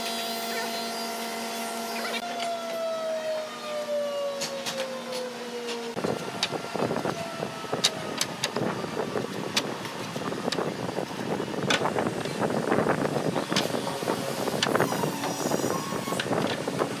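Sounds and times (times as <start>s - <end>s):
workshop noise: 0.0s - 17.0s.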